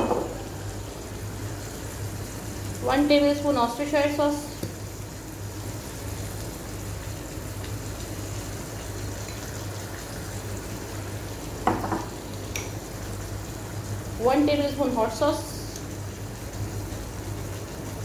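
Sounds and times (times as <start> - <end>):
sauce sizzling in a wok: 0.0 - 18.0.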